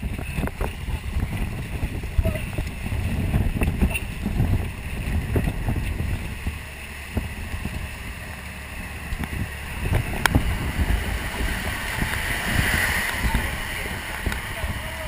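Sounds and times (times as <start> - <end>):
hiss of wind and water: 0.0 - 15.0
wind buffeting microphone: 0.0 - 15.0.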